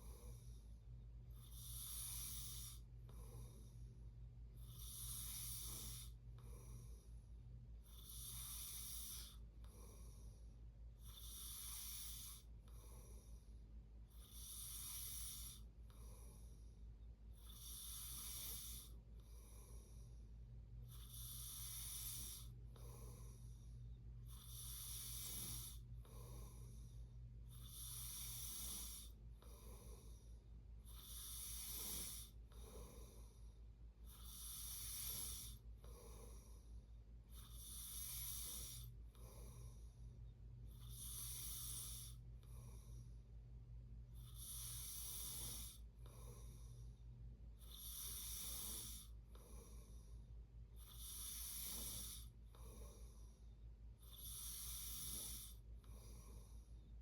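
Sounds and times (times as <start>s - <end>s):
faint low hum: 0.0s - 57.0s
person snoring softly: 0.0s - 57.0s.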